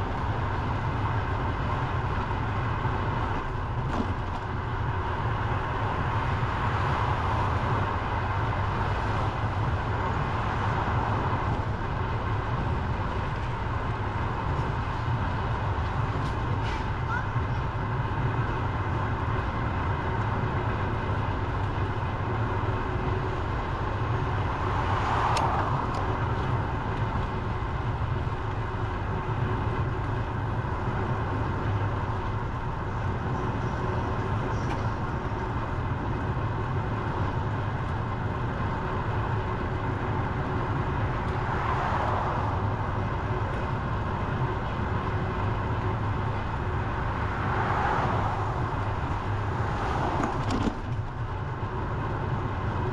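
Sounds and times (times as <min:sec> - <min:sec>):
road noise: 0:00.0 - 0:52.9
vehicles passing: 0:00.0 - 0:52.9
wind rumble: 0:00.0 - 0:52.9.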